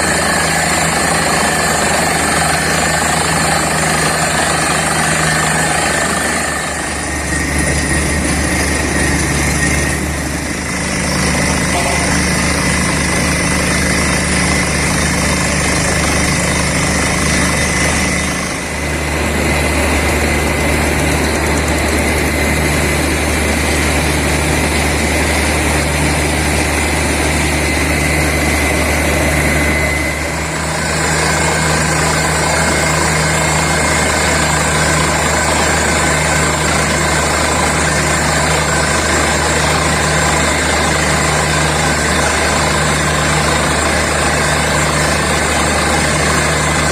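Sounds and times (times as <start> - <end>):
drilling rig engines running: 0.0 - 46.9.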